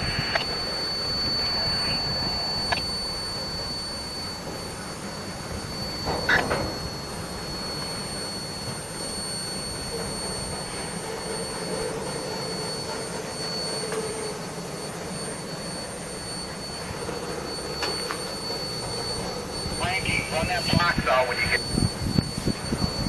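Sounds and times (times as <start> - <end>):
train rumbling: 0.0 - 20.0, 21.3 - 23.0
faint hum: 0.0 - 23.0.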